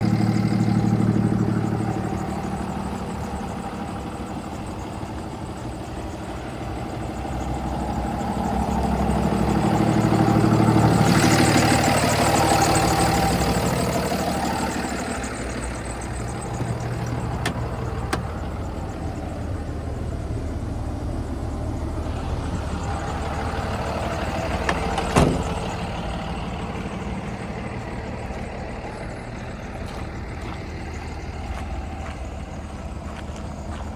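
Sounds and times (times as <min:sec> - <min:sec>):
truck diesel engine idling: 0:00.0 - 0:33.9.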